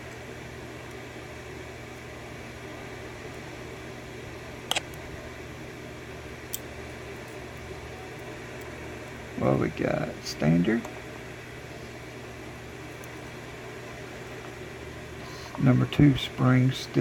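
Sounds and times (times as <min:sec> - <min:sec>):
steady fan-like hum: 0:00.0 - 0:17.0.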